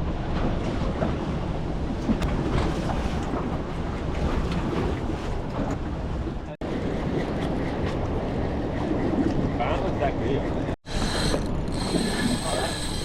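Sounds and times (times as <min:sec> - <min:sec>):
water sloshing around boat: 0:00.0 - 0:13.0
wind on microphone: 0:00.0 - 0:13.0.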